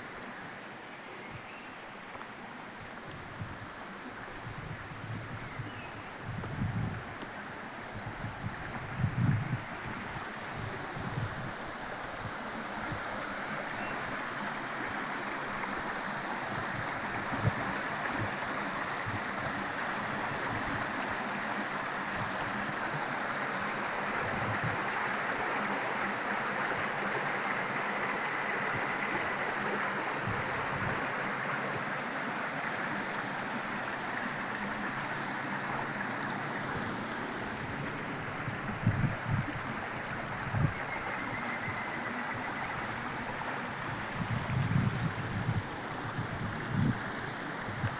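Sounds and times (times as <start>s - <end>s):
running water rushing: 8.5s - 47.9s.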